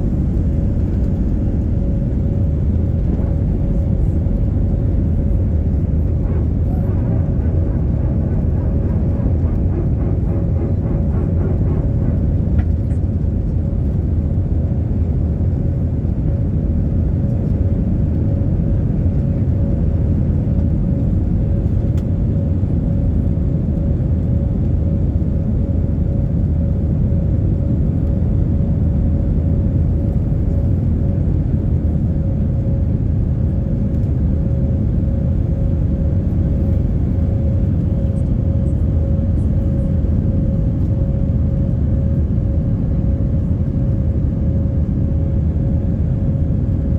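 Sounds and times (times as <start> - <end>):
jet engines running: 0.0 - 46.9.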